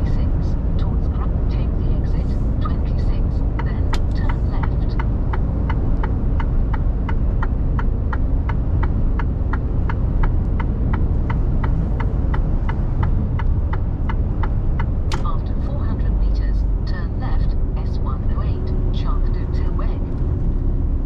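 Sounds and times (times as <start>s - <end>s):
diesel engine and road rumble: 0.0s - 21.0s
turn signal ticking: 0.0s - 21.0s.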